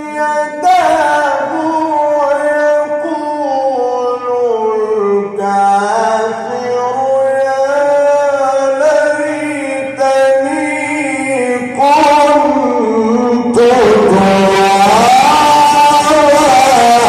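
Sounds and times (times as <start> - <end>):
man chanting long ornamented notes: 0.0 - 17.0.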